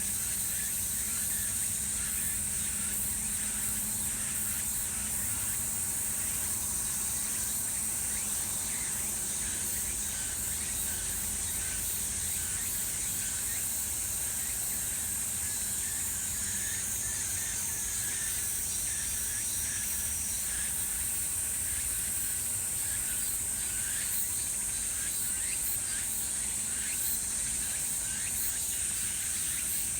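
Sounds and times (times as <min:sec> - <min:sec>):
crickets chirping: 0:00.0 - 0:29.9
insects chirring: 0:00.0 - 0:29.9.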